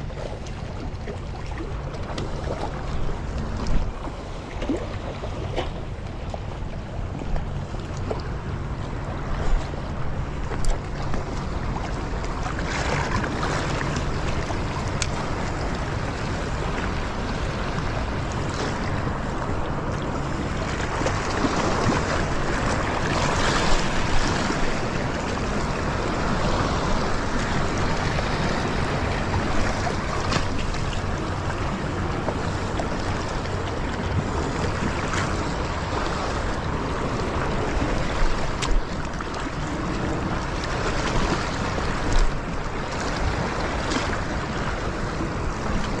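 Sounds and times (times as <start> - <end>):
low boat engine hum: 0.0 - 46.0
water lapping against rock: 0.0 - 46.0
wind on microphone: 0.0 - 46.0.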